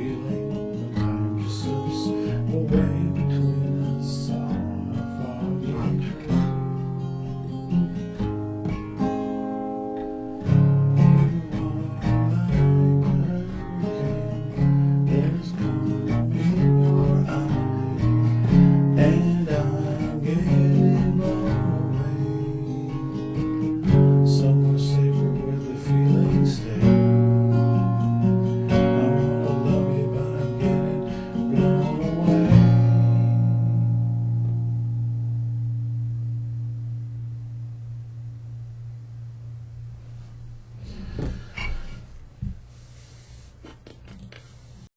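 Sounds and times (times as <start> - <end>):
acoustic guitar plucking and strumming: 0.0 - 44.8.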